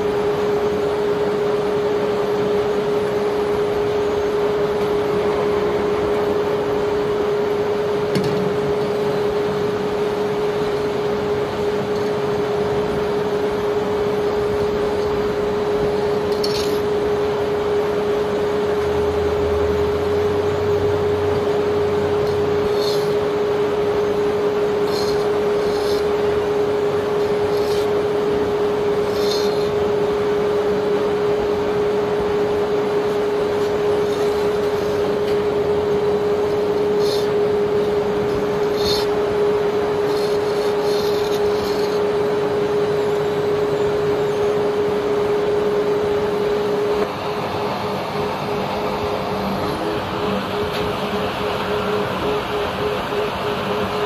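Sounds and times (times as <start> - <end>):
unloading machinery humming: 0.0 - 54.0.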